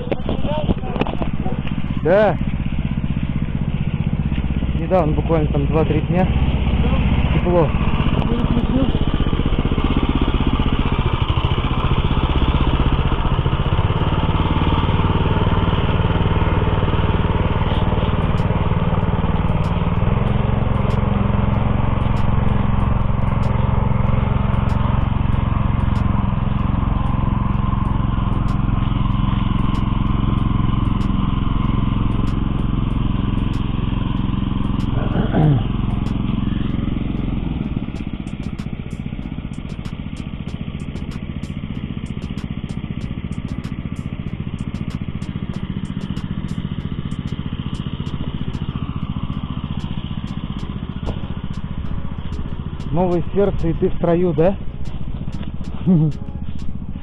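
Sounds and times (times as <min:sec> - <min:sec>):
walk-behind tractor engine running: 0:00.0 - 0:57.0.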